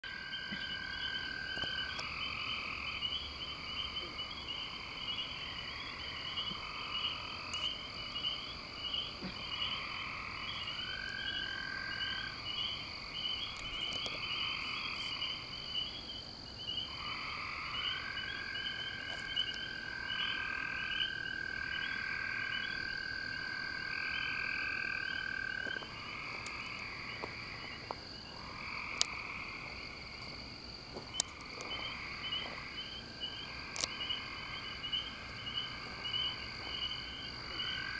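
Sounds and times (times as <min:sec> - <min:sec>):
long unbroken frog call: 0:00.0 - 0:37.9
overlapping frog calls: 0:00.0 - 0:37.9
fast frog chirping: 0:00.1 - 0:30.2, 0:31.1 - 0:37.9.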